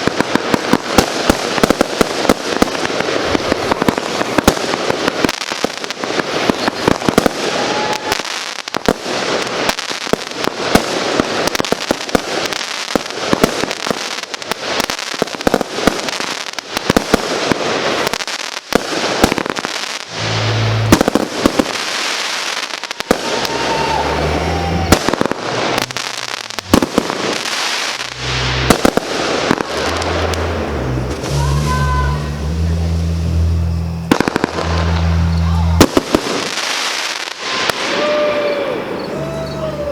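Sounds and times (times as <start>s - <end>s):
fireworks crackling: 0.0s - 39.9s
fireworks shots: 0.0s - 39.9s.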